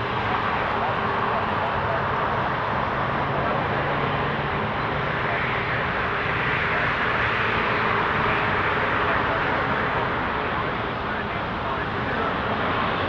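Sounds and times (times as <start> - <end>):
jet engines rumbling and hissing: 0.0 - 13.0.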